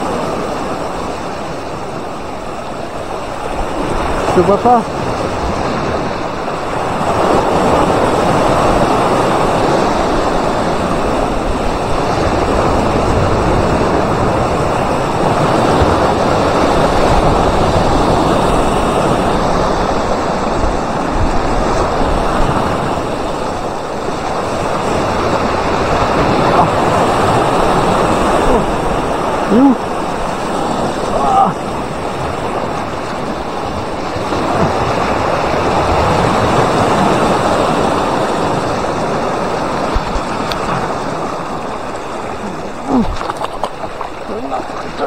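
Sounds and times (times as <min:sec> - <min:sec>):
surf breaking over rocks: 0:00.0 - 0:45.0.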